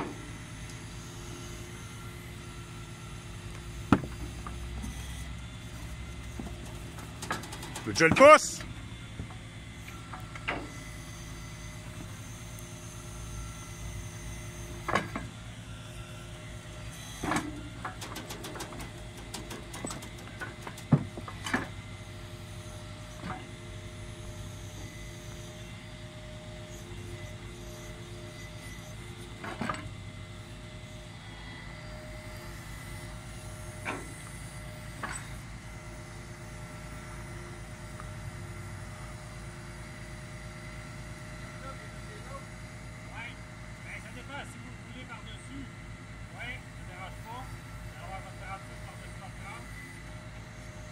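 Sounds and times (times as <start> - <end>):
truck engine and hydraulics running: 0.0 - 50.9.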